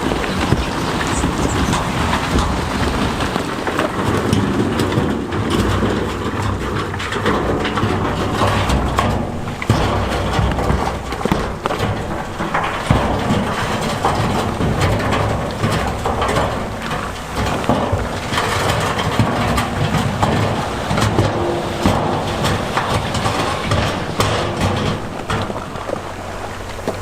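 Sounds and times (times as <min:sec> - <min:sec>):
diesel machinery running: 0:00.0 - 0:27.0
small knocks: 0:00.0 - 0:27.0
stone crunching and clattering: 0:00.0 - 0:27.0.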